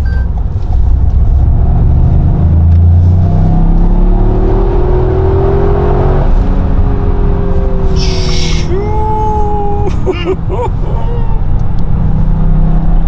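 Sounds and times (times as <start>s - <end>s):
car engine accelerating hard: 0.4s - 13.0s.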